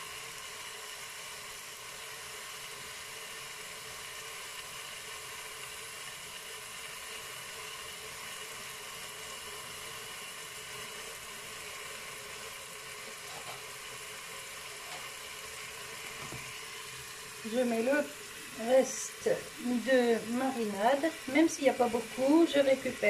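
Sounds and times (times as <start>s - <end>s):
chicken sizzling: 0.0s - 23.0s.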